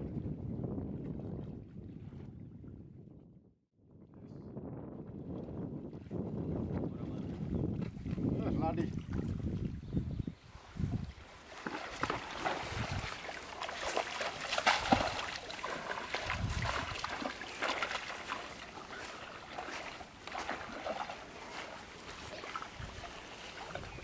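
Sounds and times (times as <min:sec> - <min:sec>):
water splashing and sloshing: 0:00.0 - 0:02.8, 0:05.4 - 0:09.8, 0:10.5 - 0:24.0.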